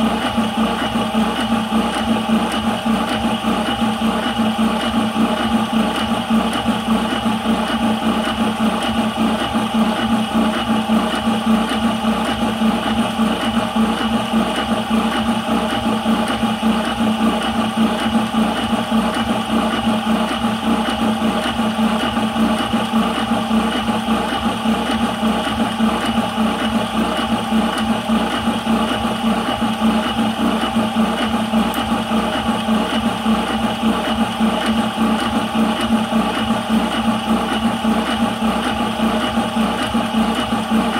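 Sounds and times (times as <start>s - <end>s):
air compressor humming: 0.0s - 40.9s.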